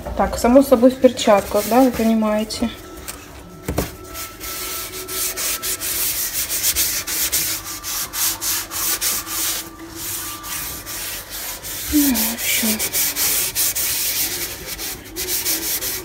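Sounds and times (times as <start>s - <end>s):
sponge scrubbing wet stovetop: 0.8s - 2.7s, 4.0s - 16.0s.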